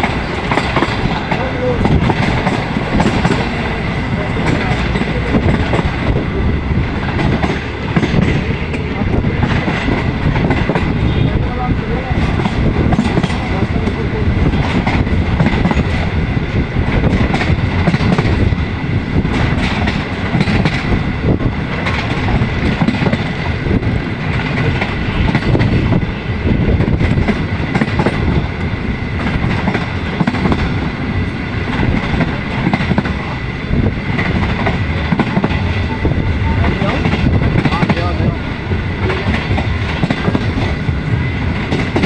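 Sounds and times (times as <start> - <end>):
clickety-clack over rail joints: 0.0 - 42.0
train wheels rumbling on rails: 0.0 - 42.0.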